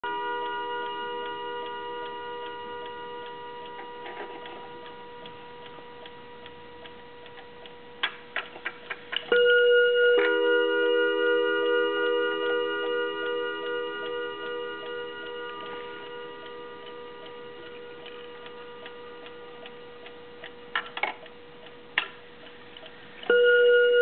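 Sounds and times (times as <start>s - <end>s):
clock gong rods ringing: 0.0s - 8.1s, 9.2s - 20.9s, 23.3s - 24.0s
clock ticking: 0.0s - 24.0s.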